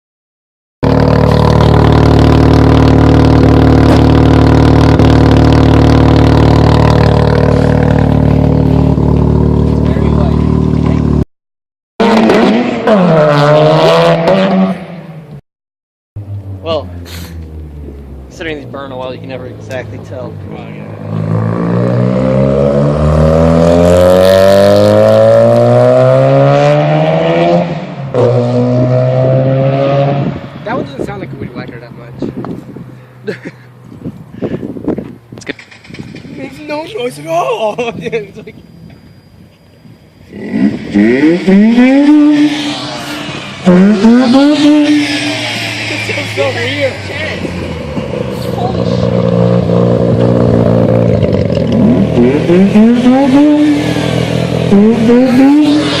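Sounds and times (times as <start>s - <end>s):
rotary engine accelerating hard: 0.8s - 11.2s, 12.0s - 15.3s, 16.2s - 33.7s, 40.2s - 56.0s.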